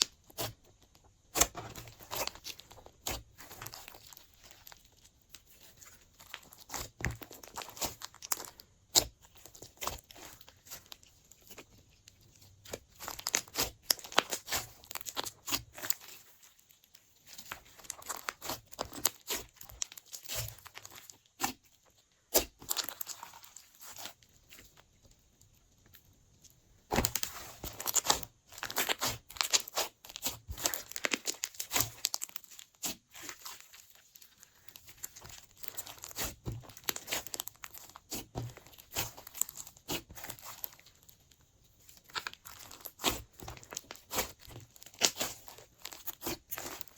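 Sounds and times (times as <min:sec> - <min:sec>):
slime squished by hand: 0:00.0 - 0:11.8, 0:12.4 - 0:21.7, 0:26.9 - 0:46.9.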